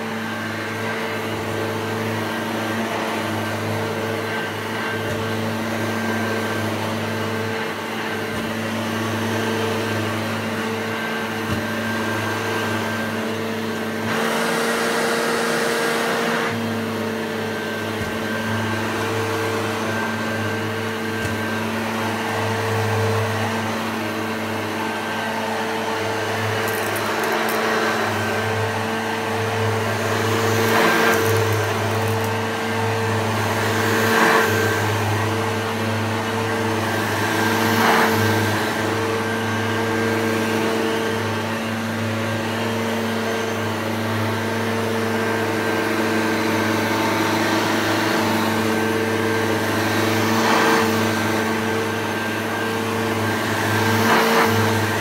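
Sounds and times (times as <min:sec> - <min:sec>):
electric motor humming: 0:00.0 - 0:55.0.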